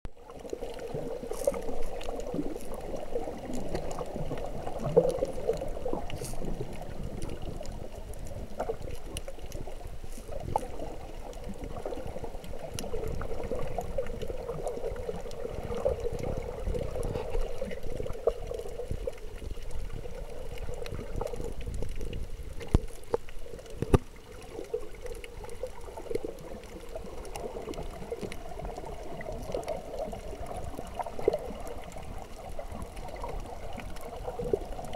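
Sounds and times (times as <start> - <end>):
low underwater rumble: 0.1 - 34.9
muffled underwater water wash: 0.1 - 34.9
small underwater clicks: 0.2 - 34.9.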